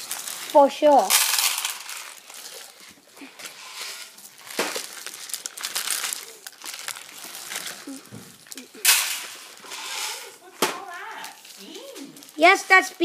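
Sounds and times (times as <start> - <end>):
dried beans rattling and scraping: 0.0 - 13.0
plastic toy clatters: 0.0 - 13.0
rustling: 0.0 - 13.0.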